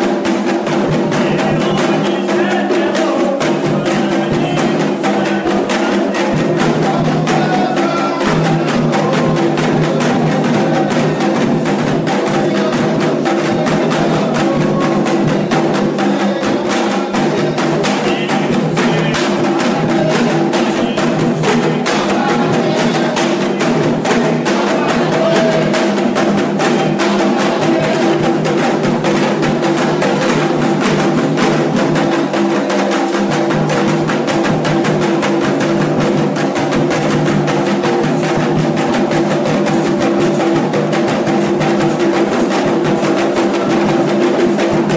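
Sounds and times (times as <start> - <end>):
hand drums in fast rhythm: 0.0 - 44.9.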